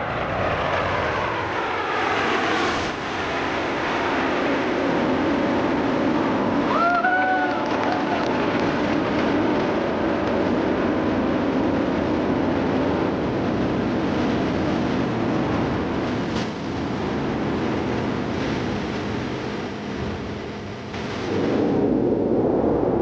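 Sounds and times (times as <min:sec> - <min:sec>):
jet engine roar: 0:00.0 - 0:23.0.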